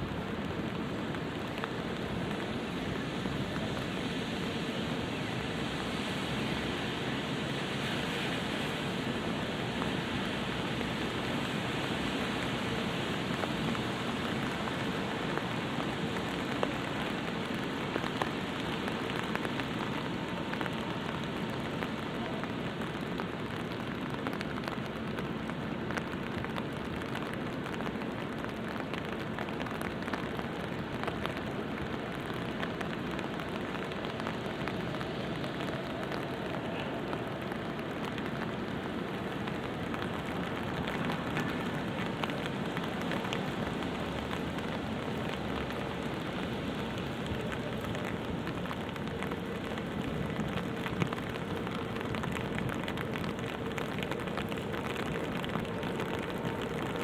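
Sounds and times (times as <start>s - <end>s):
rain pattering on an umbrella: 0.0s - 57.0s.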